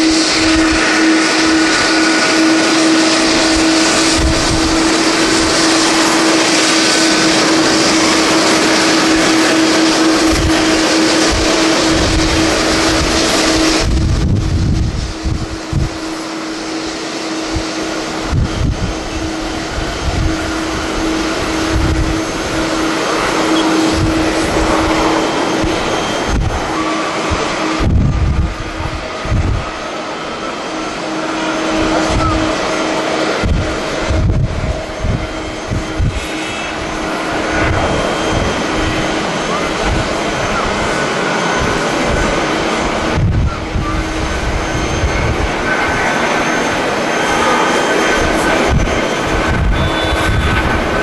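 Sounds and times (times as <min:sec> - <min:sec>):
jet engine roar: 0:00.0 - 0:51.0
low droning tone: 0:00.0 - 0:51.0
wind buffeting microphone: 0:00.0 - 0:51.0.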